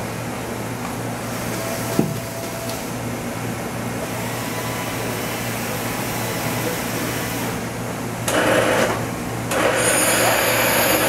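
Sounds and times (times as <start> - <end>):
milling machine humming: 1.0 - 11.0.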